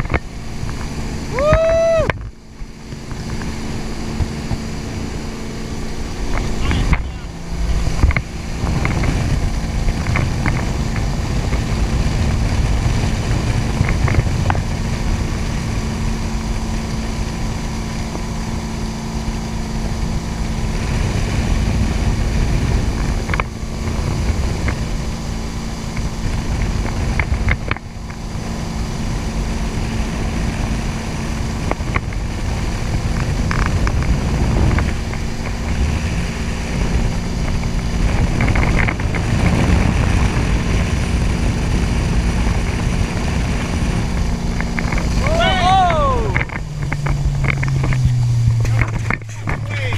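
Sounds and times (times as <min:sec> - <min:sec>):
motorboat engine drone: 0:00.0 - 0:49.9
wind buffeting microphone: 0:00.0 - 0:49.9.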